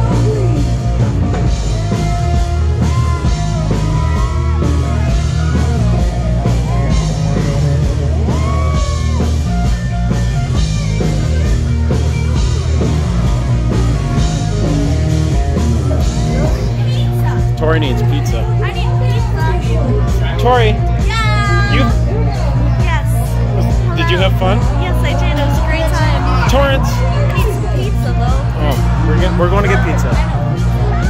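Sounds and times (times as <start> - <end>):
bass guitar: 0.0 - 31.0
drums: 0.0 - 31.0
keyboard: 0.0 - 31.0.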